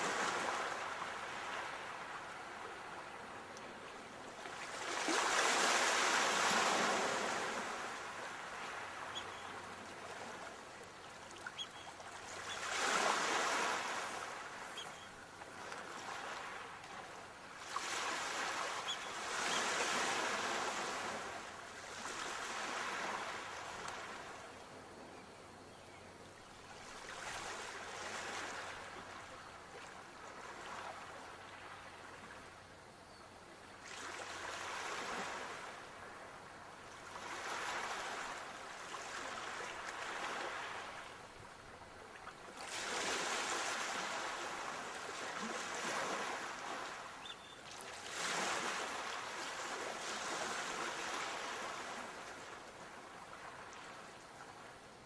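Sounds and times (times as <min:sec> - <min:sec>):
sea waves breaking on shore: 0:00.0 - 0:24.6, 0:26.6 - 0:32.4, 0:33.8 - 0:54.8.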